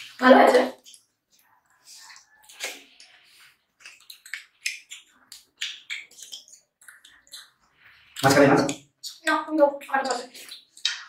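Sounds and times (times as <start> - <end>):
wet mouth smacks from chewing: 0.8 - 11.0.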